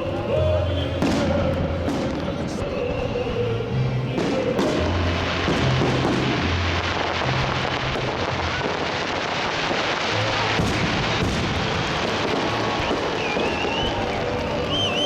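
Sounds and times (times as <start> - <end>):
music playing: 0.0 - 15.0
firework bangs: 0.2 - 3.4, 4.1 - 15.0.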